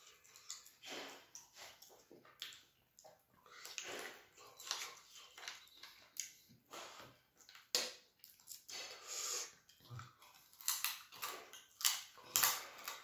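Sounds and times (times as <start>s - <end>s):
wet chewing and lip smacking: 0.0s - 6.7s, 7.4s - 13.0s.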